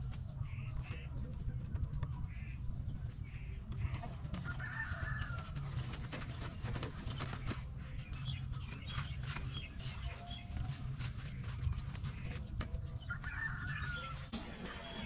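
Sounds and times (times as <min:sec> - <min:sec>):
footsteps passing: 0:00.0 - 0:14.4
birds calling: 0:00.0 - 0:15.0.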